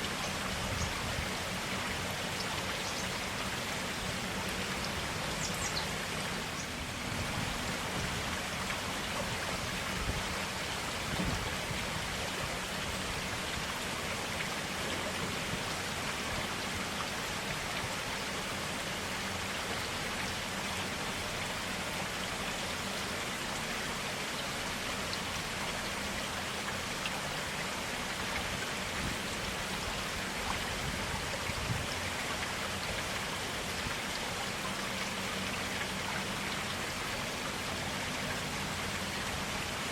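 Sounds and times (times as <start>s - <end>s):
stream water flowing and splashing: 0.0s - 39.9s.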